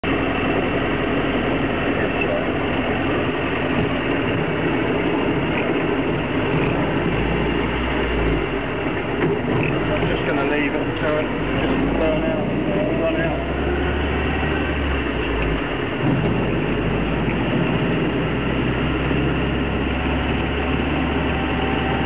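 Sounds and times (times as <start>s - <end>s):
car engine running: 0.0s - 22.0s
road and wind noise: 0.0s - 22.0s.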